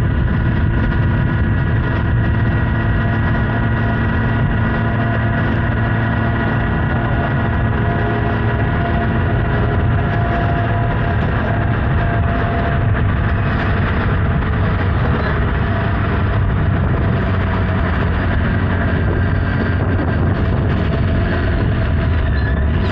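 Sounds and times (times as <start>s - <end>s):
motorcycle engine running: 0.0s - 22.9s
wind and road rush: 0.0s - 22.9s.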